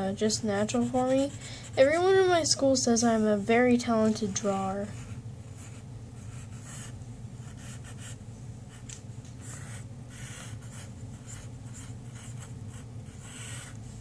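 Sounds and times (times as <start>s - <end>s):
steady low hum: 0.0s - 14.0s
pencil scratching on paper: 0.2s - 2.4s, 3.2s - 8.8s, 9.4s - 14.0s.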